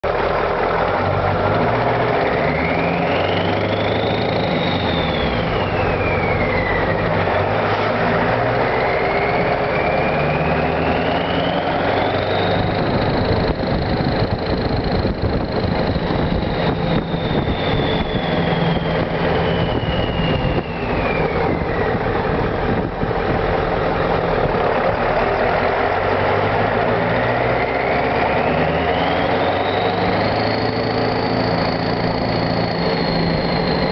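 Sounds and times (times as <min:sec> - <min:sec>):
diesel truck engine rumbling: 0:00.0 - 0:33.9
turbocharger whistling: 0:00.1 - 0:33.9.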